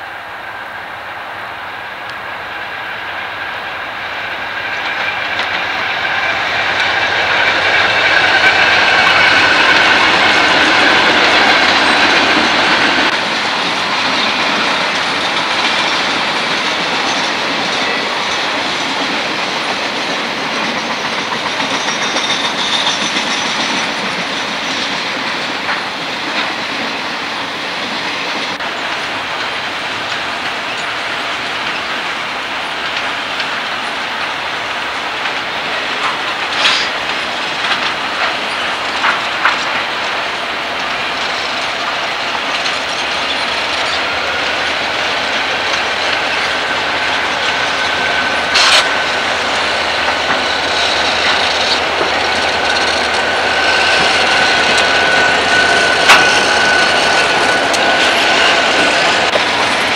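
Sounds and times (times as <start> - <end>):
diesel locomotive engines running: 0.0 - 59.9
wheels clacking over rail joints: 4.3 - 59.9.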